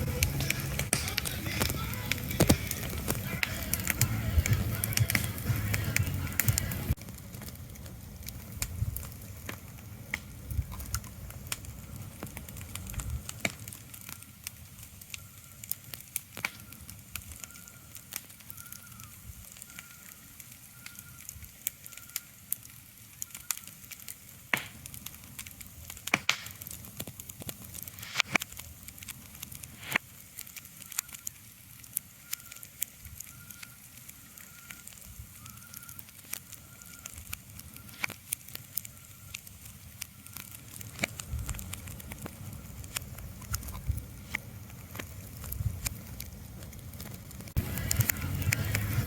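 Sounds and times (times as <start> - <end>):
sharp crackles and pops: 0.0 - 49.0.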